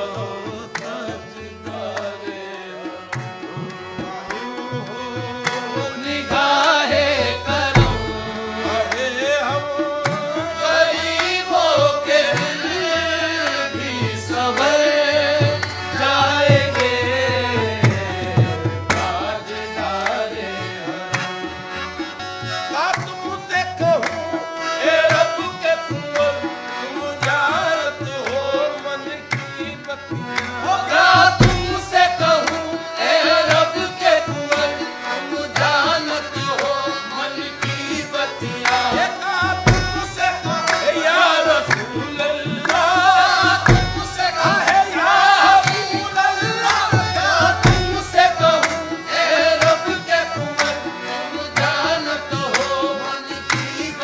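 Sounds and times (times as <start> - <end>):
harmonium drone: 0.0 - 54.0
men singing: 0.0 - 54.0
hand claps: 0.1 - 54.0.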